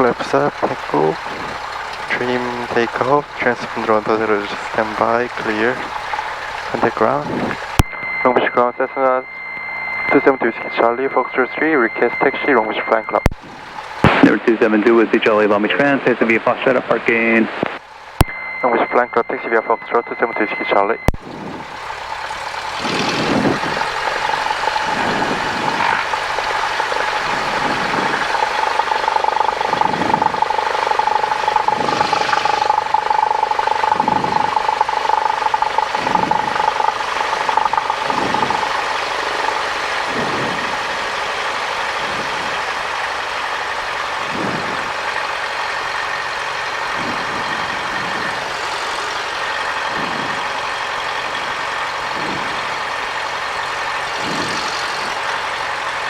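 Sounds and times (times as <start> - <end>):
propeller plane engine drone: 0.0 - 56.0
steady whine: 0.0 - 56.0.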